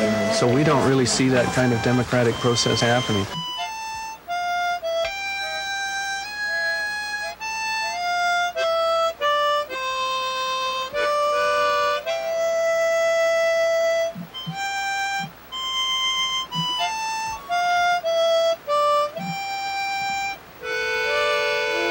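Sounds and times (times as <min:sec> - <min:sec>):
slow wind instrument melody: 0:00.0 - 0:21.9.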